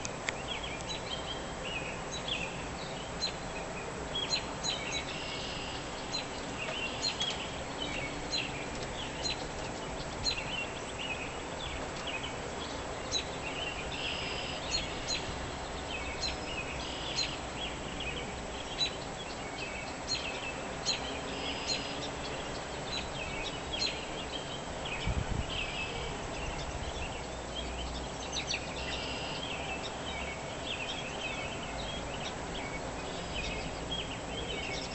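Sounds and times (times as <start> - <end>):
small birds chirping: 0.0 - 34.9
steady background hiss: 0.0 - 34.9.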